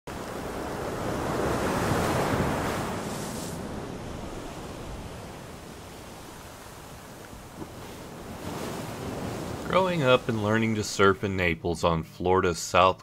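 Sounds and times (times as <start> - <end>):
ocean wave breaking: 0.1 - 11.4.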